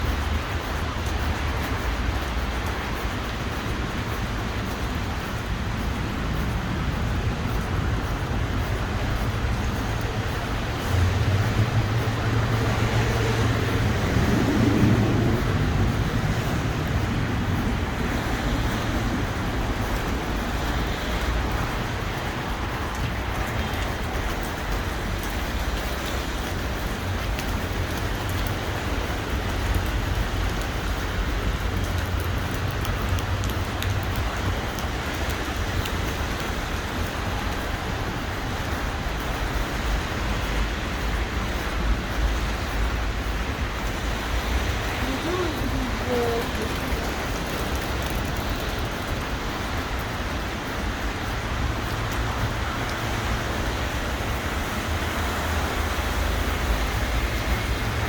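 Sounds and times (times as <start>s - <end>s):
constant low rumble: 0.0s - 58.0s.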